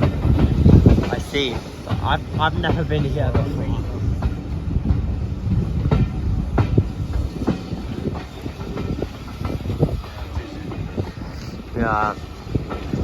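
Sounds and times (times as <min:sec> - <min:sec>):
sharp clacks and clunks: 0:00.0 - 0:11.2
railway carriages rolling: 0:00.0 - 0:13.0.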